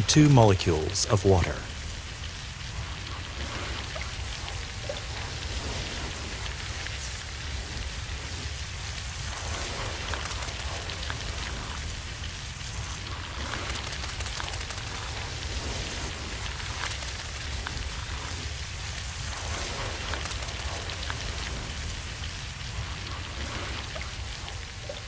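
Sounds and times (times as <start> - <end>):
crackling rain-like hiss: 0.0 - 25.0.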